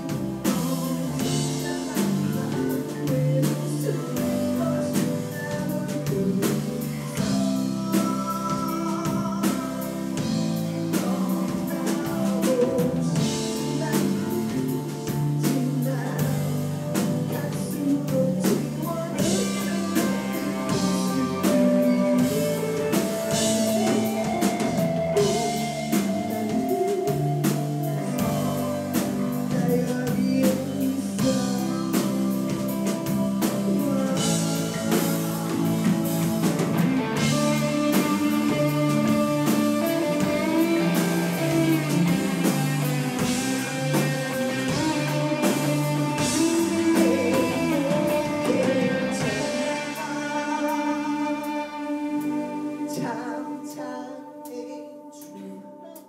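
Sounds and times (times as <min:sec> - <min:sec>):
drum kit: 0:00.0 - 0:53.8
man singing: 0:00.0 - 0:56.0.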